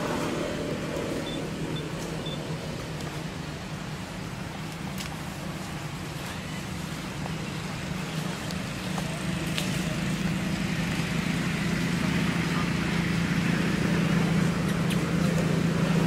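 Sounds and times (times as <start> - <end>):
low engine hum and rumble: 0.0 - 16.0.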